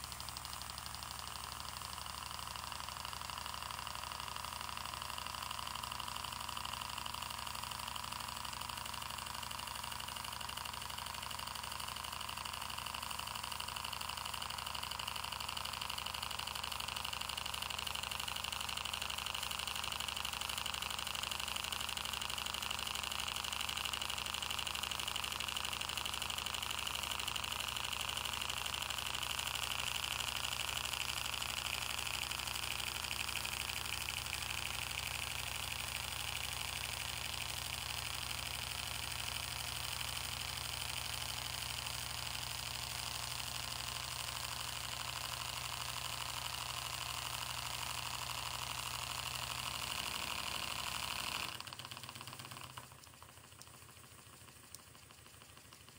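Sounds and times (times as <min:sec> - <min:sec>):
steam engine running: 0:00.0 - 0:55.9.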